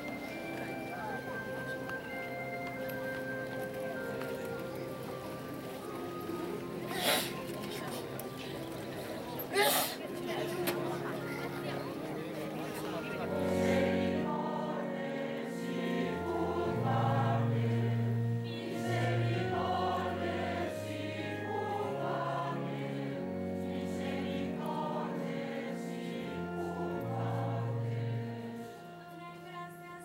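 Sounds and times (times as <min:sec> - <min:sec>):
held low accompaniment notes: 0:00.0 - 0:30.0
choir singing a hymn: 0:03.8 - 0:30.0.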